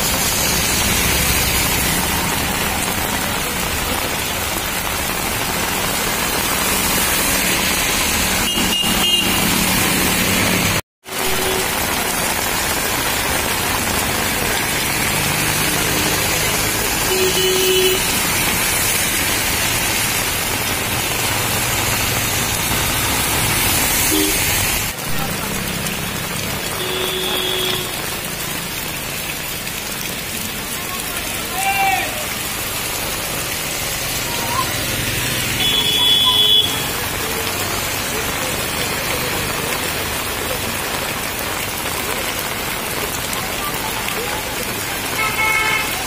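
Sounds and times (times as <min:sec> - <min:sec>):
heavy rain pouring: 0:00.0 - 0:46.0
traffic driving through water: 0:00.0 - 0:46.0.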